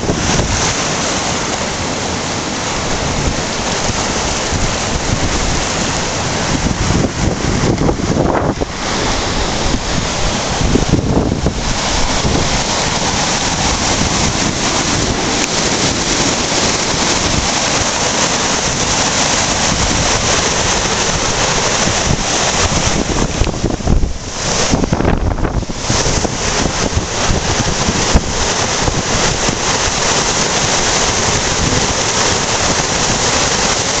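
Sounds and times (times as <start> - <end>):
rushing water roar: 0.0 - 34.0.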